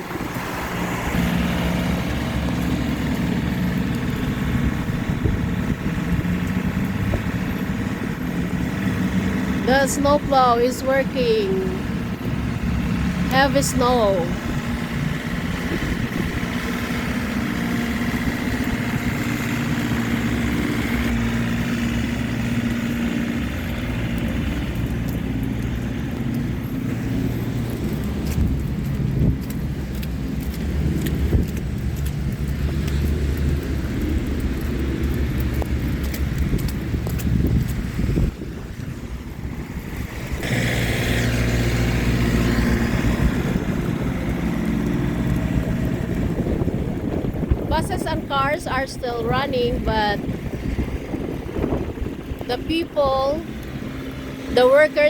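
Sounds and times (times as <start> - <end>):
low wind rumble: 0.0 - 55.0
snowplow engine droning: 0.0 - 55.0.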